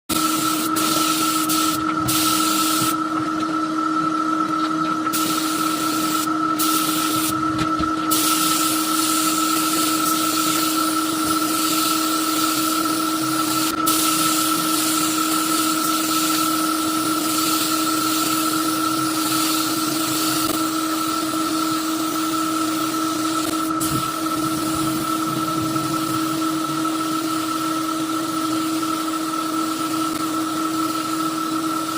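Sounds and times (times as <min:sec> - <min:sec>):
spray gun hissing: 0:00.1 - 0:03.0, 0:05.1 - 0:28.8
steady motor hum: 0:00.1 - 0:31.9.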